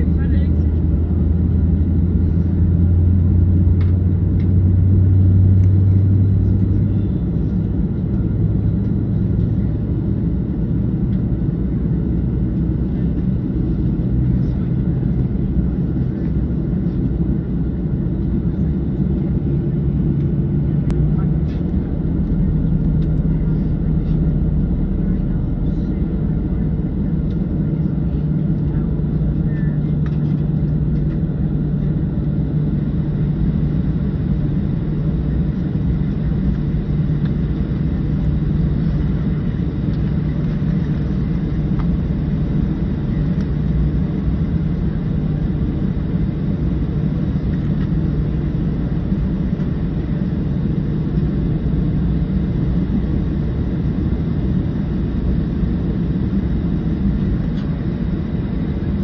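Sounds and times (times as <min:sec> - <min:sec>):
airplane cabin rumble: 0:00.0 - 0:59.0
constant low hum: 0:00.0 - 0:59.0.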